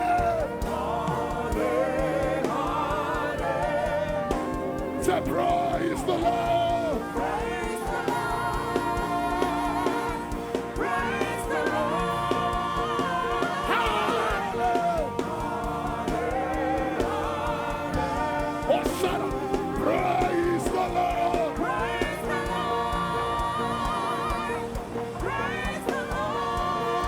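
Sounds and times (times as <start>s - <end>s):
keyboard band with steady beat: 0.0s - 27.0s
voices singing gospel: 0.0s - 27.0s.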